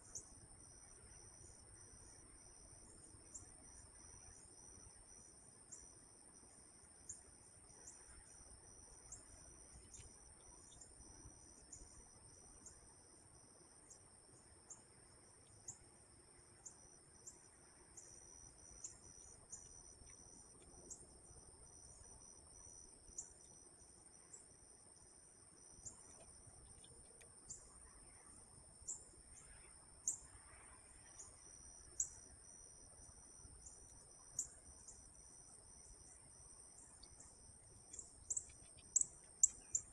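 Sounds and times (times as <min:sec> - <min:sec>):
insect chorus chirping: 0:00.0 - 0:39.9.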